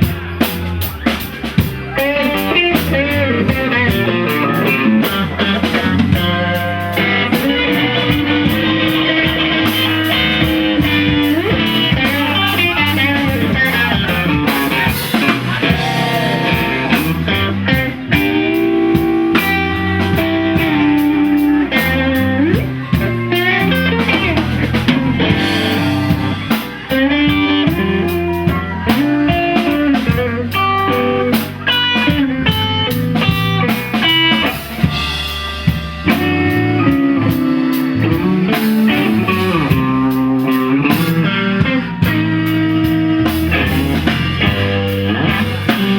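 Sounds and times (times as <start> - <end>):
drum kit: 0.0 - 45.9
electric guitar: 0.0 - 45.9.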